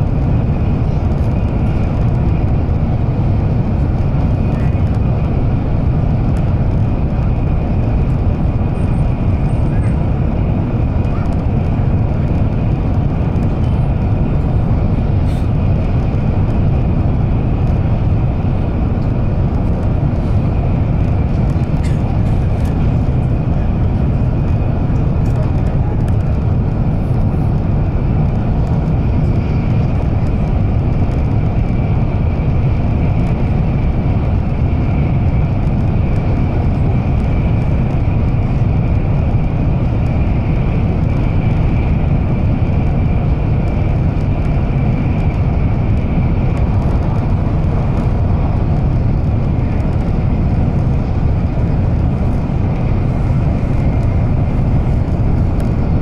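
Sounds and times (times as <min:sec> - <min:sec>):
train cabin rumble: 0:00.0 - 0:56.0.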